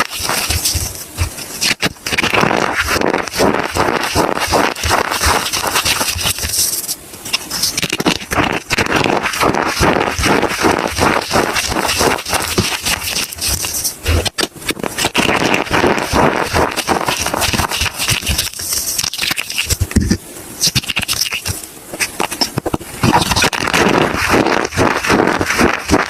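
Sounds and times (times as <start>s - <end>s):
soap crackling and crunching: 0.0s - 26.0s.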